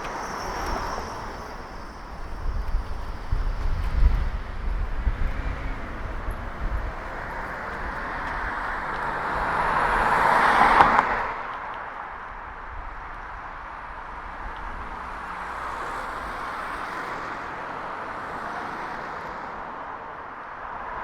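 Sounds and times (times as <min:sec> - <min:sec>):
car passing close by: 0:00.0 - 0:21.0.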